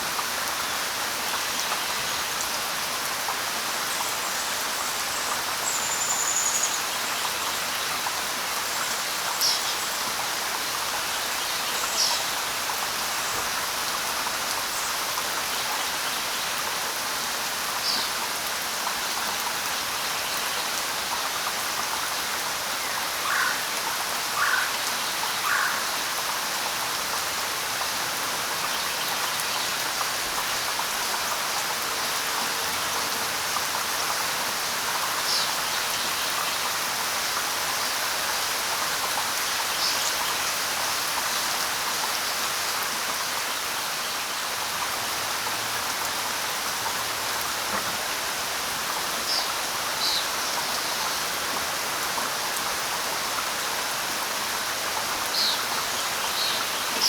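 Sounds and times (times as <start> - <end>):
light rain on leaves: 0.0 - 57.0.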